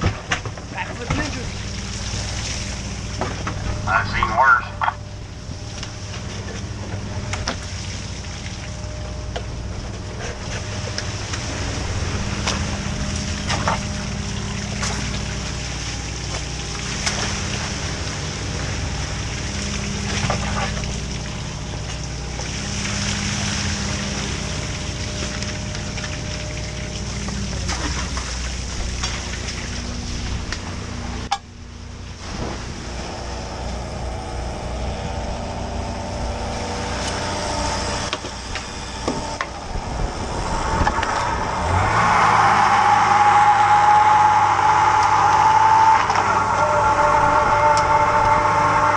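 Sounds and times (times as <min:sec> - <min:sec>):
boat engine running: 0:00.0 - 0:48.9
high mechanical whine: 0:00.0 - 0:48.9
hose water spraying and splashing: 0:00.8 - 0:04.6, 0:10.0 - 0:31.0, 0:34.5 - 0:48.9.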